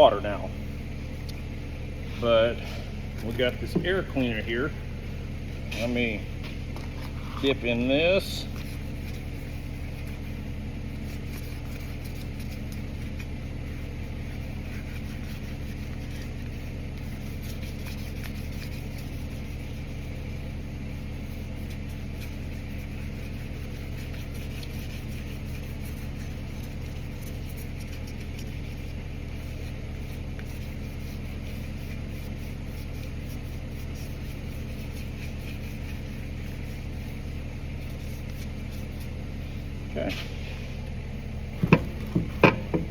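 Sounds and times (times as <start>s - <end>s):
motor humming: 0.0s - 42.9s.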